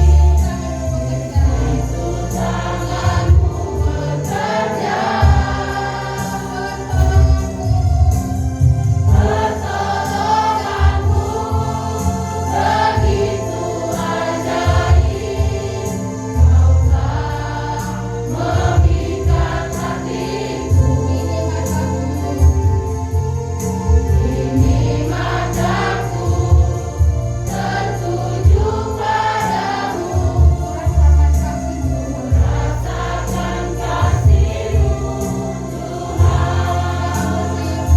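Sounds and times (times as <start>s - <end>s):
choir singing worship song: 0.0s - 37.9s
instrumental accompaniment: 0.0s - 37.9s.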